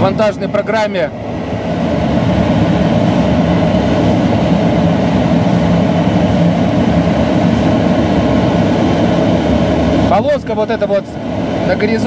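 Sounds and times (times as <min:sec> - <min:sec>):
loud rush of airflow: 0:00.0 - 0:12.0.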